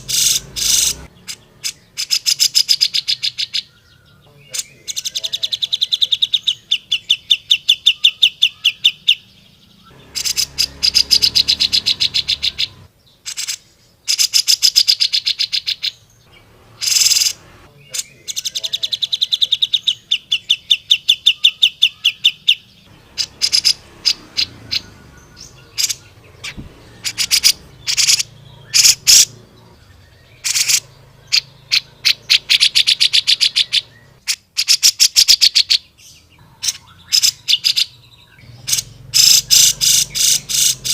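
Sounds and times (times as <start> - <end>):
bird singing rapid stuttering notes: 0.0 - 40.9
sharp bird calls: 0.0 - 40.9.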